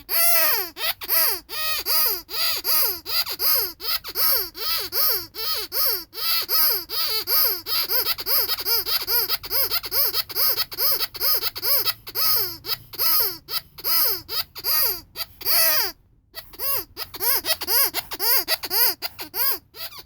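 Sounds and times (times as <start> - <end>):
squeaky toy squeaks: 0.0 - 20.0.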